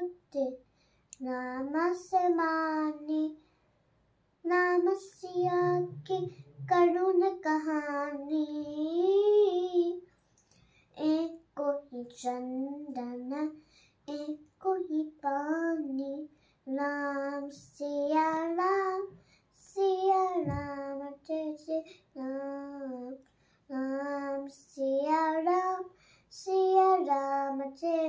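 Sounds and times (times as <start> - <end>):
girl singing unaccompanied: 0.0 - 3.5, 4.4 - 10.2, 10.9 - 28.0.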